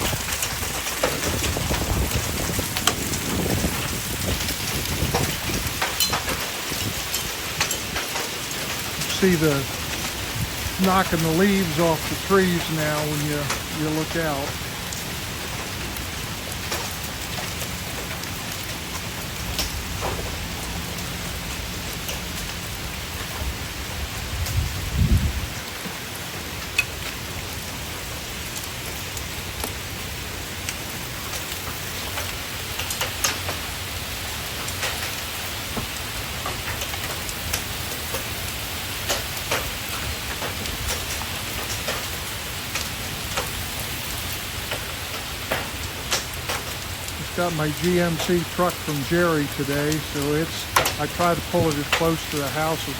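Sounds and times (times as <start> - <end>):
hail pelting a roof: 0.0 - 52.9
sharp hail impacts: 0.0 - 52.9.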